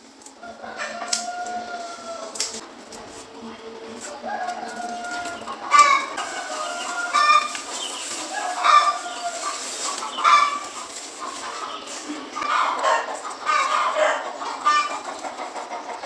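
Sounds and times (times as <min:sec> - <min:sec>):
chickens clucking: 0:00.3 - 0:16.0
loud chicken call: 0:00.4 - 0:02.6, 0:04.2 - 0:15.9.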